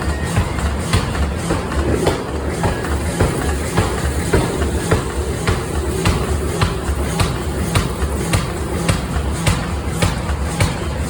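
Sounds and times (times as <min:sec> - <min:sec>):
low pulsing machine drone: 0:00.0 - 0:11.0.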